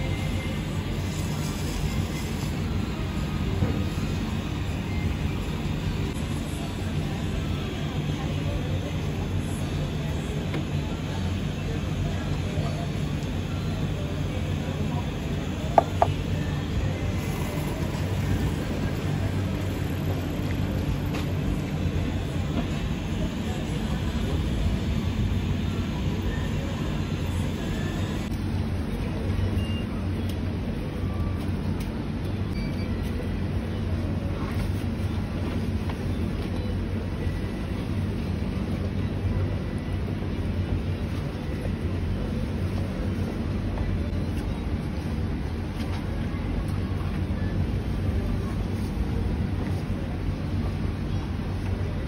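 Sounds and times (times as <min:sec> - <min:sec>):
city street rumble: 0:00.0 - 0:52.0.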